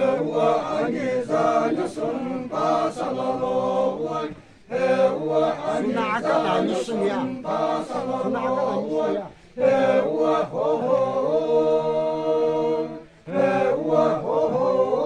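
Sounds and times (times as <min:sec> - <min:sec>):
men chanting: 0:00.0 - 0:15.0.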